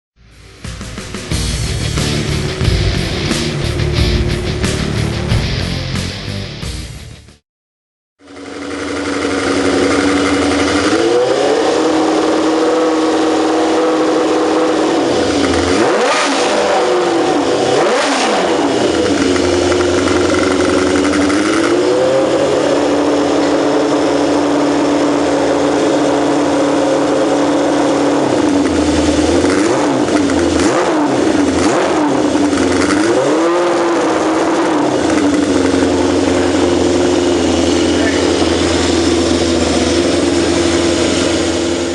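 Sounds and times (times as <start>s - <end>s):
motorcycle engine idling and revving: 0.2s - 7.3s, 8.2s - 41.9s.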